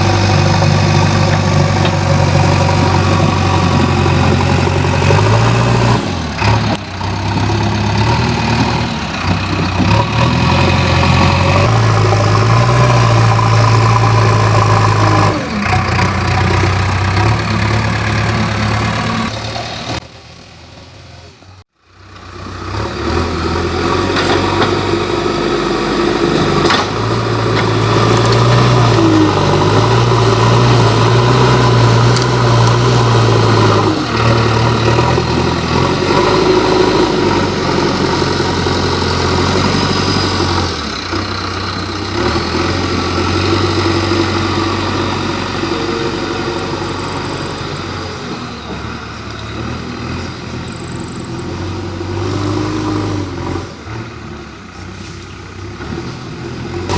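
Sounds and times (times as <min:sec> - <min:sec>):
diesel engine under load: 0:00.0 - 0:56.9.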